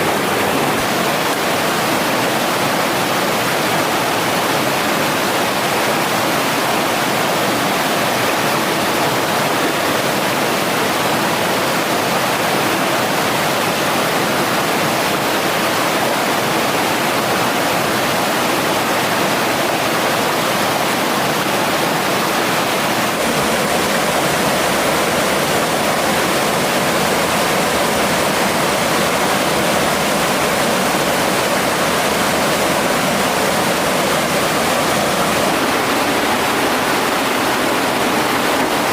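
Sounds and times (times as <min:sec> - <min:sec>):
mountain stream rushing: 0:00.0 - 0:38.9.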